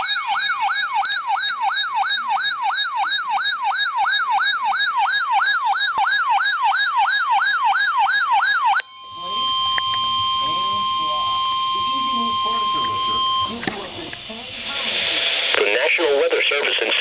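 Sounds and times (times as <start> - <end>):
electronic siren yelp: 0.0 - 14.8.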